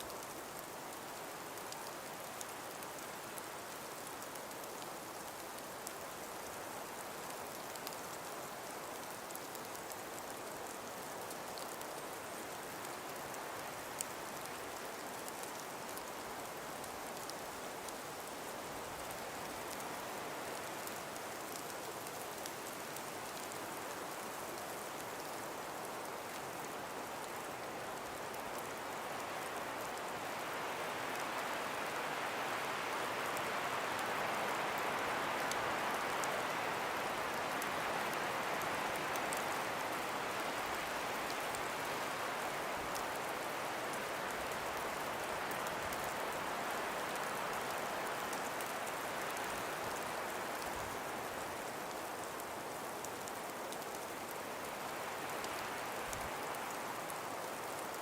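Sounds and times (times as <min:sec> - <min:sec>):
breeze blowing through forest: 0:00.0 - 0:58.0.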